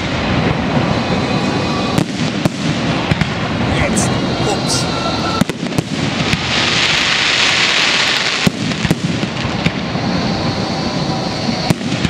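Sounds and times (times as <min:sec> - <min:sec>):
fireworks hiss and crackle: 0:00.0 - 0:12.0.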